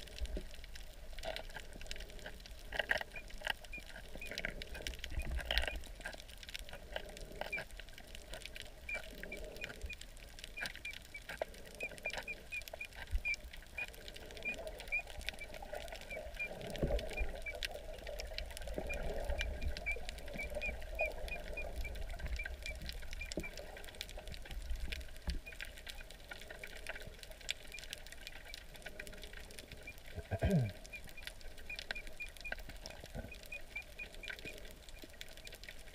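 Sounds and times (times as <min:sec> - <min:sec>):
crackling clicks: 0:00.0 - 0:35.9
muffled underwater rumble: 0:00.0 - 0:35.9.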